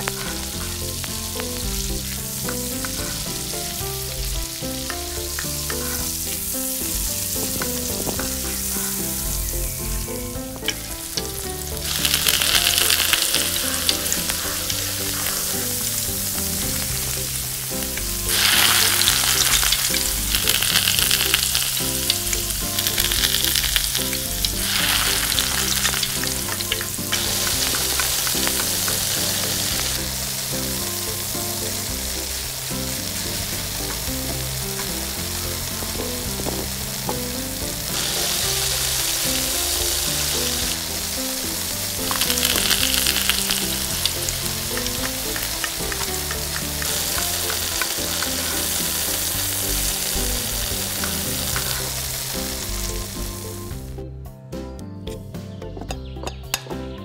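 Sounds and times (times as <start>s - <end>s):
oil sizzling in a pan: 0.0s - 54.0s
soft background music: 0.0s - 57.0s.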